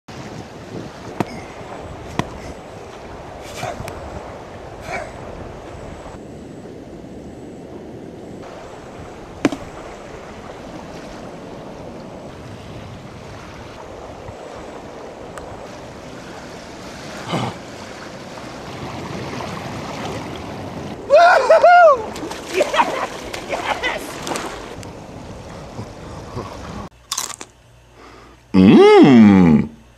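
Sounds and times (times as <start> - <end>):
wind: 0.0 - 29.9
ocean surf: 0.1 - 26.9.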